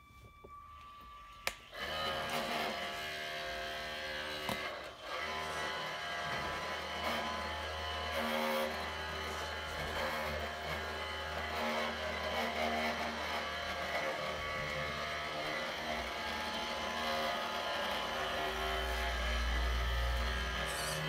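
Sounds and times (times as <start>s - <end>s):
model vehicle motor and gears: 1.4s - 21.0s.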